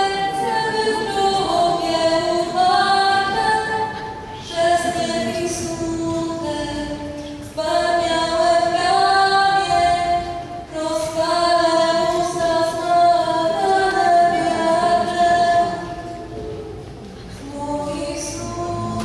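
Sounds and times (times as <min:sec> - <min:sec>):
woman singing slow song: 0:00.0 - 0:16.5, 0:17.3 - 0:19.0
acoustic guitar: 0:00.0 - 0:19.0.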